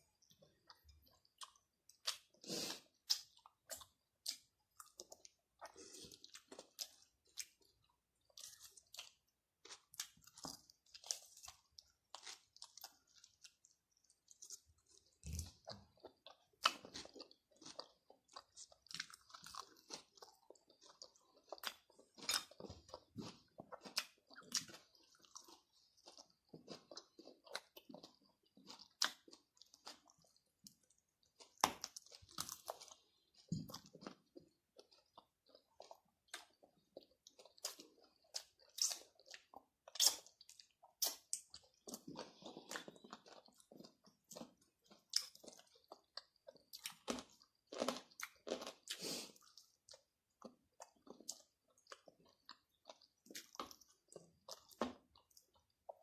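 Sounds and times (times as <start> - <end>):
person chewing crunchy food: 0.1 - 56.0.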